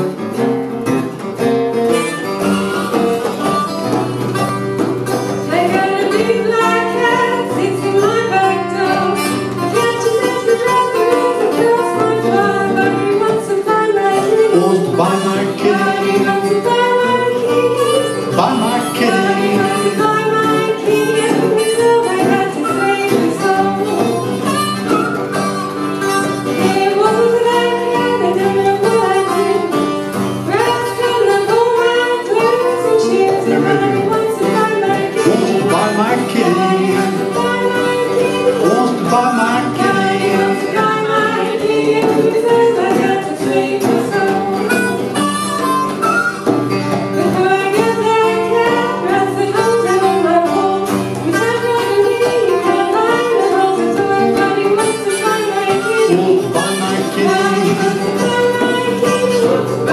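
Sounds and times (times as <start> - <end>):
acoustic guitar: 0.0 - 59.9
hand drum: 0.0 - 59.9
harmonica: 0.0 - 59.9.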